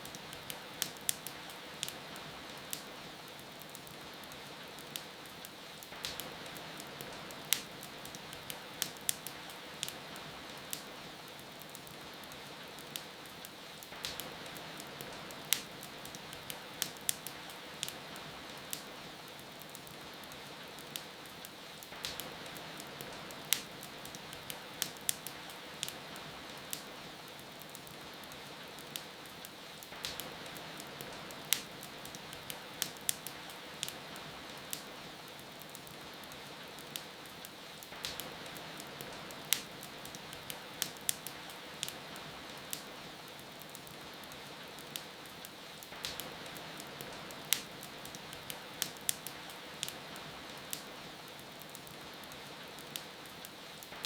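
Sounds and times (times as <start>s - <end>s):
rain hiss: 0.0s - 54.0s
wood fire crackling: 0.0s - 54.0s.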